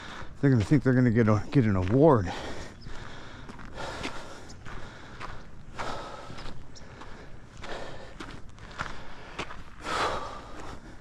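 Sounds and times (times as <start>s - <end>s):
footsteps on a trail: 0.0s - 11.0s.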